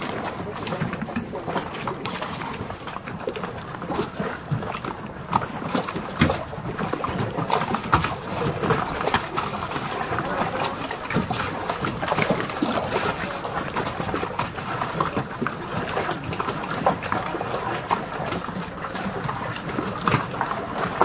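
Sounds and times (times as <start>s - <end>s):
waves lapping against boat hulls: 0.0s - 21.0s.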